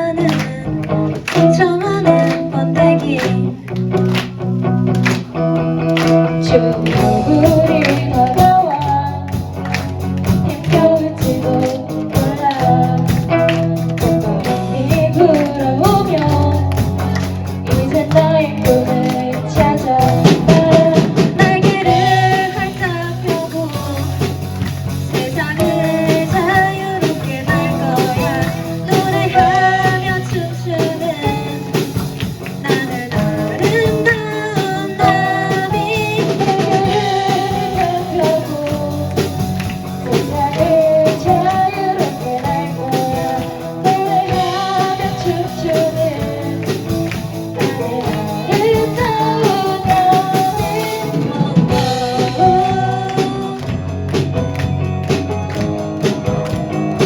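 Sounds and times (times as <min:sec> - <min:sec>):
sung vocals: 0:00.0 - 0:04.2, 0:04.9 - 0:54.5
bass guitar: 0:00.0 - 0:57.0
drum kit: 0:00.0 - 0:57.0
electric guitar: 0:00.0 - 0:57.0.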